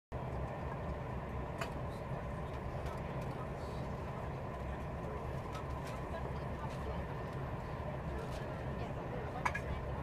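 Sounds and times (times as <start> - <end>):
faint steady whine: 0.2 - 10.0
train cabin low rumble: 0.2 - 10.0.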